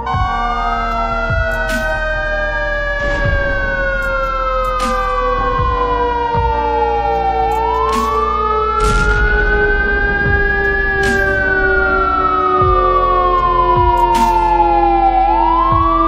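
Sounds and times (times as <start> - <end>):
emergency siren wailing: 0.0 - 16.0
low sliding tone: 0.3 - 15.6
sharp cracks: 0.8 - 6.4, 7.1 - 14.9.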